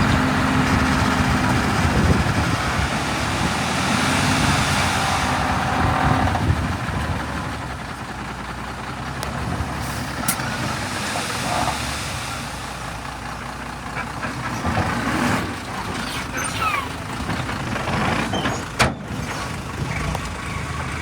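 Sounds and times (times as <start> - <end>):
heavy diesel machinery running: 0.0 - 21.0.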